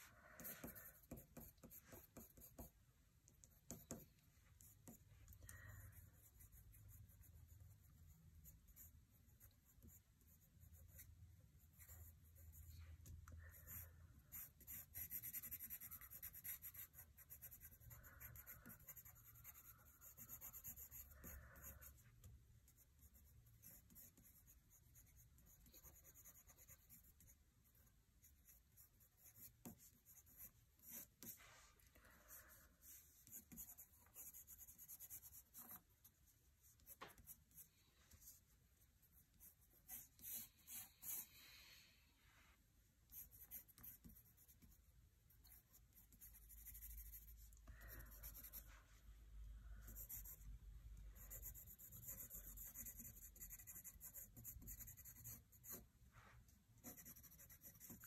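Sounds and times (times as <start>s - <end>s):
pencil scratching on paper: 0.0s - 2.8s, 3.4s - 41.4s, 43.1s - 49.0s, 49.8s - 58.0s.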